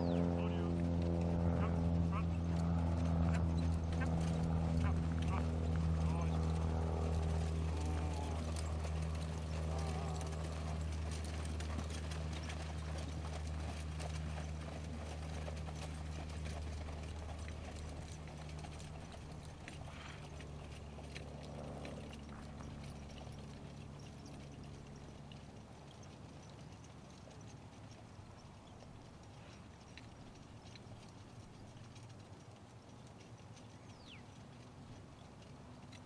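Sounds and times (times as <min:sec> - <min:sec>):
steady low hum: 0:00.0 - 0:33.0
hooves trotting on sand: 0:00.0 - 0:36.0.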